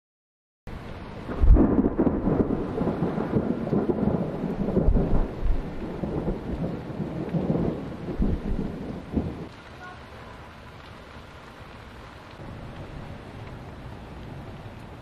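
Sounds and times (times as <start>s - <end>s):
thunder rumbling: 0.7s - 15.0s.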